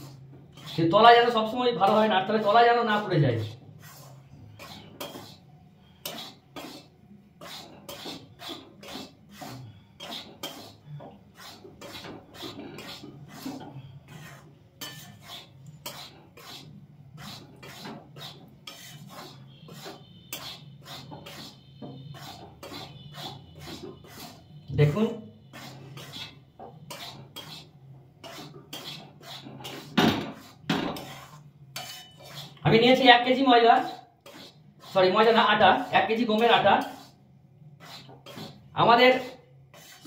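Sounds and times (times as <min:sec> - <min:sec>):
metal spatula scraping flour: 0:00.0 - 0:40.0.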